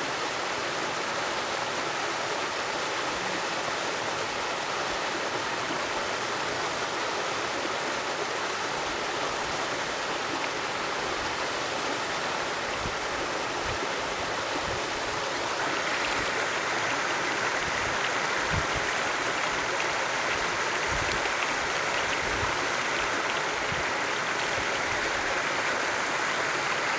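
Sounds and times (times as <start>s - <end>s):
waterfall rushing and splashing: 0.0s - 26.9s.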